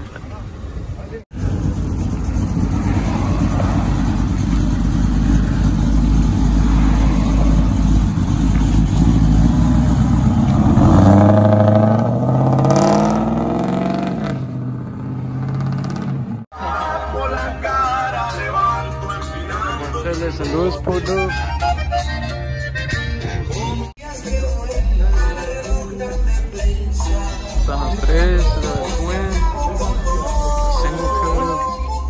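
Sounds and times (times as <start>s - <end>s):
pickup truck engine rumbling: 0.0s - 32.0s.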